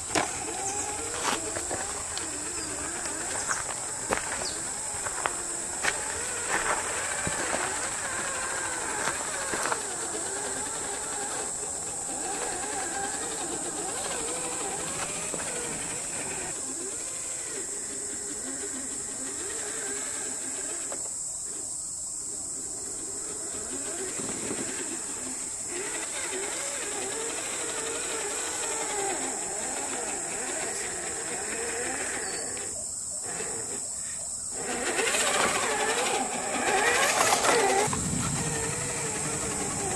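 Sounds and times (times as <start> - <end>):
electric motor and gearbox whining: 0.0 - 39.9.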